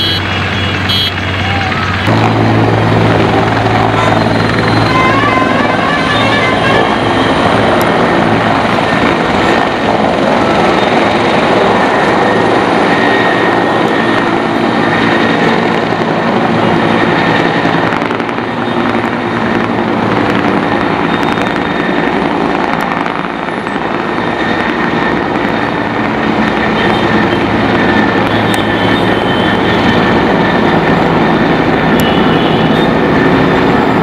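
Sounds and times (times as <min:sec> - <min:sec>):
helicopter rotor and turbine: 0:00.0 - 0:34.0.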